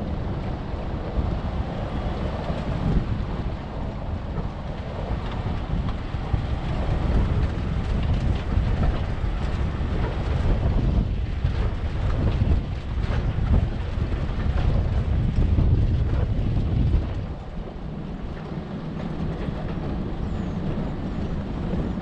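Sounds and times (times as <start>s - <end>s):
vehicle engine and tyres rumbling: 0.0s - 22.0s
wind buffeting microphone: 0.0s - 22.0s.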